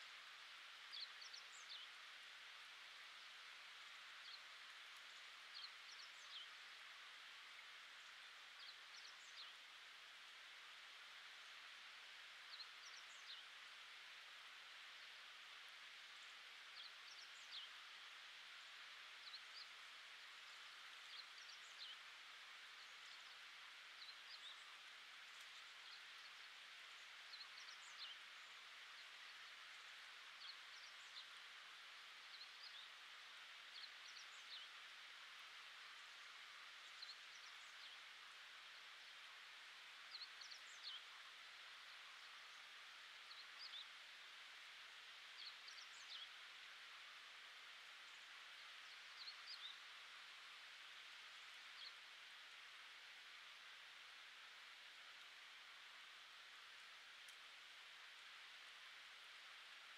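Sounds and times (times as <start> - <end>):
distant small birds chirping: 0.0 - 59.9
steady hiss: 0.0 - 59.9.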